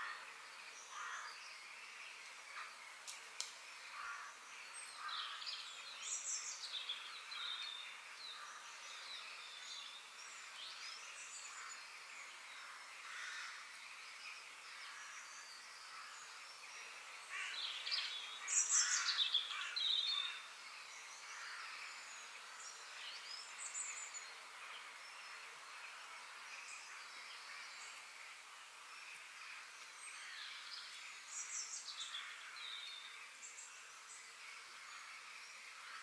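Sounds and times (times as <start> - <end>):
forest birds singing: 0.0 - 36.0.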